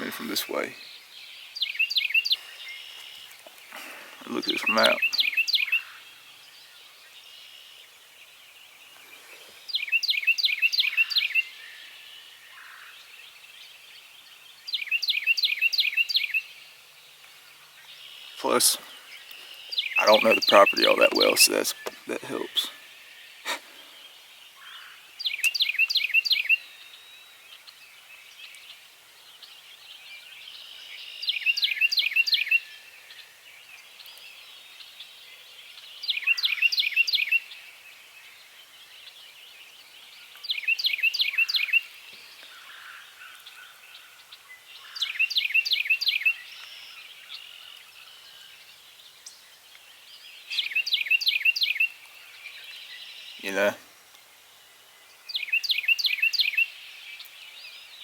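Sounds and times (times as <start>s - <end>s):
songbird singing rising notes: 0.0s - 58.0s.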